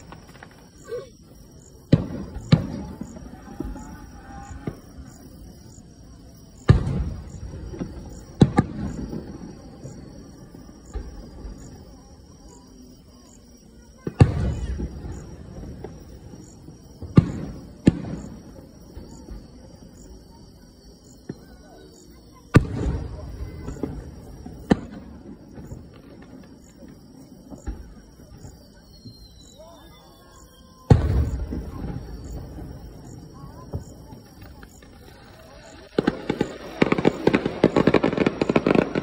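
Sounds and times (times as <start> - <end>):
distant firework booms: 0.0 - 12.1, 14.0 - 21.7, 22.4 - 29.3, 30.7 - 39.0.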